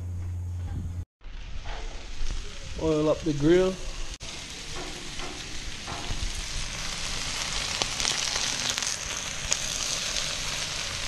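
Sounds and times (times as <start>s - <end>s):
oil sizzling on grill grates: 1.2s - 11.0s.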